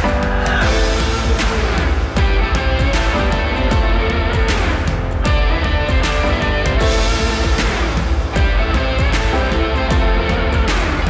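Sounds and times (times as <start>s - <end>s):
driving drum beat: 0.0s - 11.0s
rock music with electric guitar: 0.0s - 11.0s.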